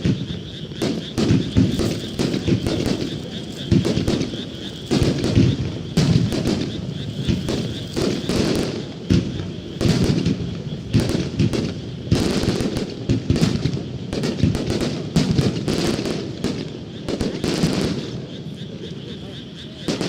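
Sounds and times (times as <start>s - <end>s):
fireworks booming: 0.0s - 20.0s
fireworks rumble and crackle: 0.0s - 20.0s.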